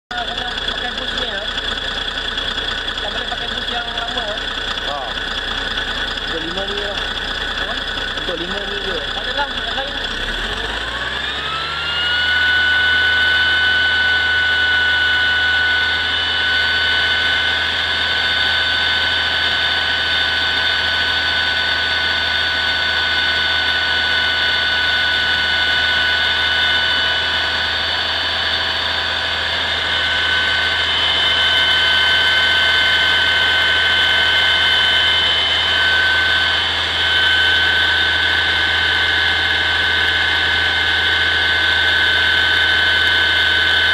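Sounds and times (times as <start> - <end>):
belt drive whine: 0.1 - 43.9.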